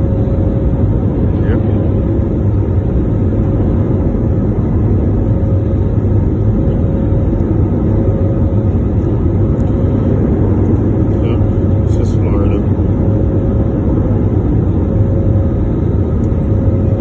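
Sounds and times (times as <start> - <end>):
airliner engines roaring in cabin: 0.0 - 17.0.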